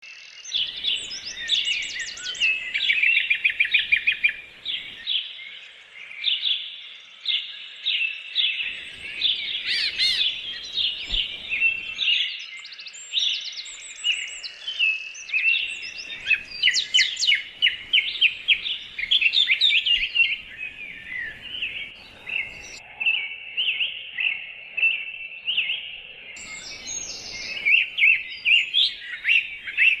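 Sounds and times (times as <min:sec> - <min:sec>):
birds chirping and trilling: 0:00.0 - 0:30.0.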